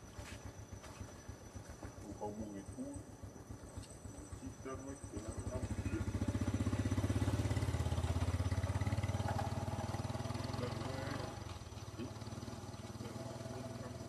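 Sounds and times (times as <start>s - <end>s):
engine running with fast pulse: 0.0s - 14.0s.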